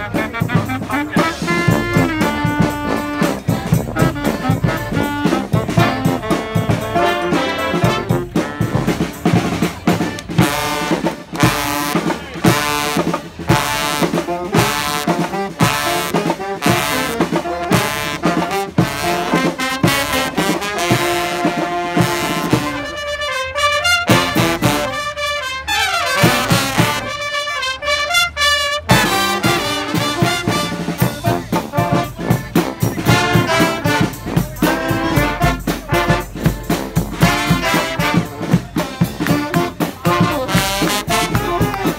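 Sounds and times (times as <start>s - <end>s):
drums beating: 0.0s - 25.2s, 26.0s - 27.3s, 28.7s - 41.9s
brass band playing: 0.0s - 41.9s.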